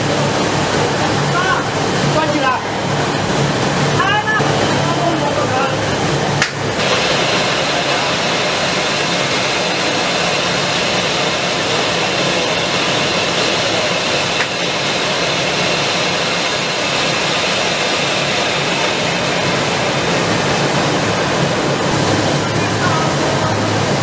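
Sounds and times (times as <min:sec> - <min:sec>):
machine and blowers rushing: 0:00.0 - 0:24.0.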